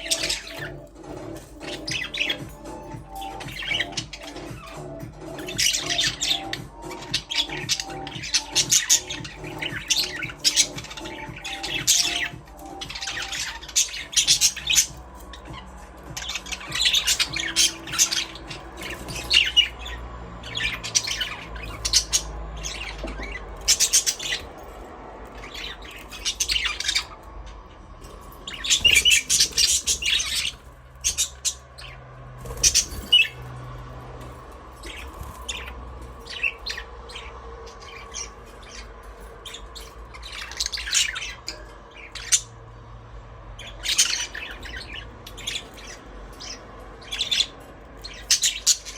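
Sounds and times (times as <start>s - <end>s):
budgerigars chirping and squawking: 0.0s - 48.9s.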